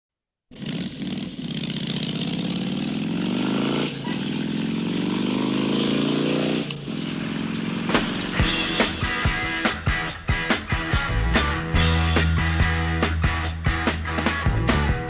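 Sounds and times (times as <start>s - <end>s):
motorcycle engine revving: 0.5s - 15.0s.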